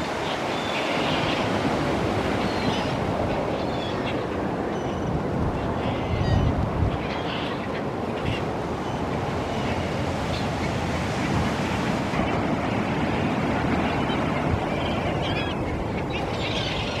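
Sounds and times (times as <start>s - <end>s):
water: 0.0s - 17.0s
wind on microphone: 0.0s - 17.0s.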